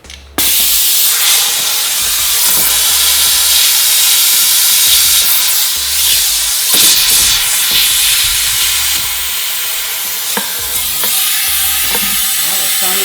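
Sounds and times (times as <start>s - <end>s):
compressed air hissing: 0.4s - 13.0s.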